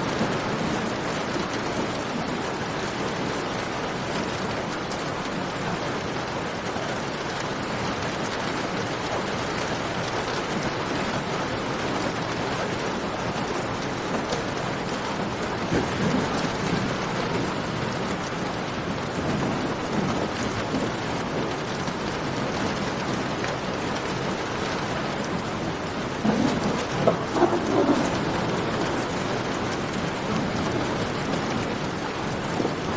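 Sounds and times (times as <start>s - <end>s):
rain falling in a cave: 0.0s - 32.9s.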